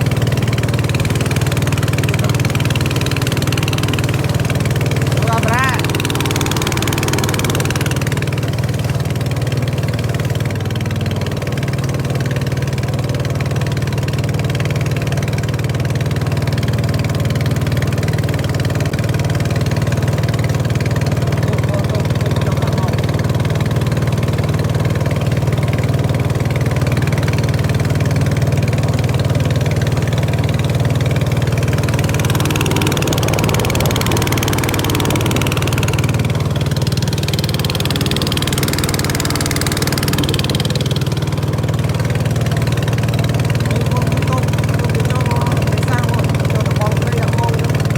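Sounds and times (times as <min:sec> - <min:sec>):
water rushing: 0:00.0 - 0:14.2, 0:19.9 - 0:47.9
boat engine droning: 0:00.0 - 0:47.9.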